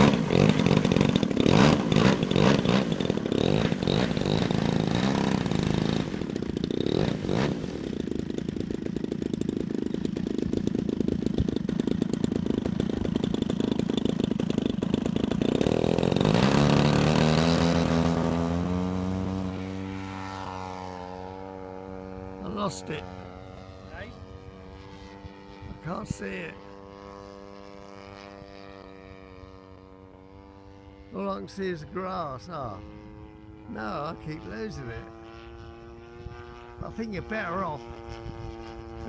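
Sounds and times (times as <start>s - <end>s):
model plane engine: 0.0s - 39.0s.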